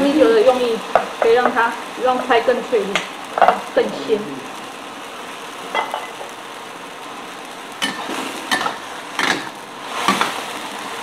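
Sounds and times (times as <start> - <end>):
low sizzle: 0.0 - 11.0.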